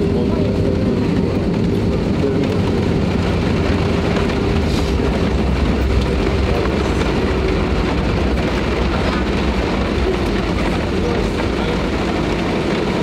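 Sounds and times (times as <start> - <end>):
engine and wheel rumble: 0.0 - 13.0
hail drumming on aircraft: 0.0 - 13.0.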